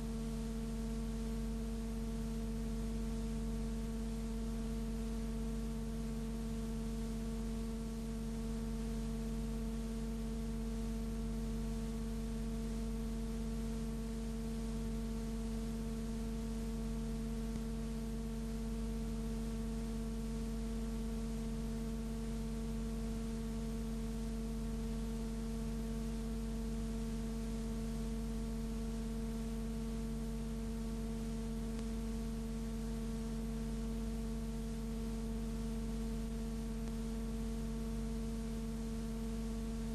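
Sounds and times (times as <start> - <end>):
constant hiss: 0.0 - 39.9
electrical hum: 0.0 - 39.9.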